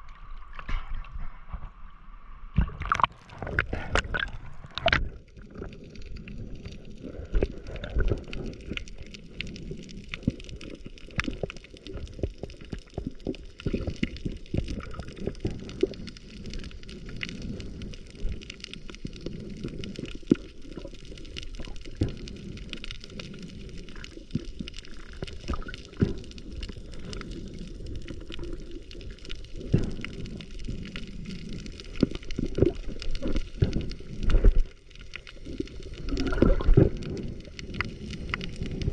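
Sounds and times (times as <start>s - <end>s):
small clicks and crackles: 0.0s - 1.8s, 2.6s - 38.9s
muffled underwater sloshing: 0.0s - 38.9s.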